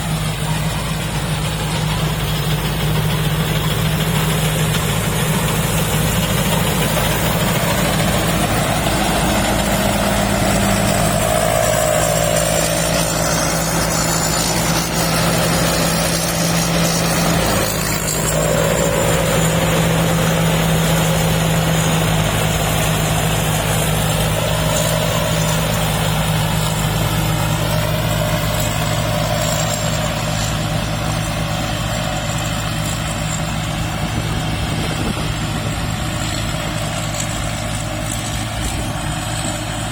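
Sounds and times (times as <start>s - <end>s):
high-pitched whine: 0.0s - 39.6s
combine harvester engine running: 0.0s - 39.9s.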